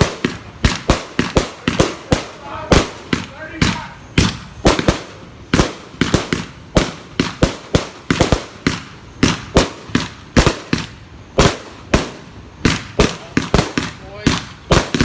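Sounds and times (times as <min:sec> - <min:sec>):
firework bangs: 0:00.0 - 0:15.0.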